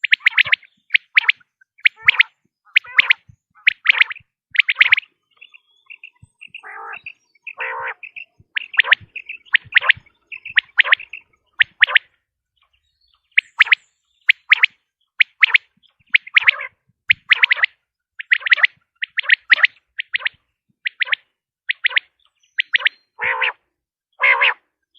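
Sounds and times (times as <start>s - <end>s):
faint high chirps: 0.0s - 23.2s
harsh buzzy bird calls: 0.0s - 24.6s
quail calling: 0.0s - 24.7s.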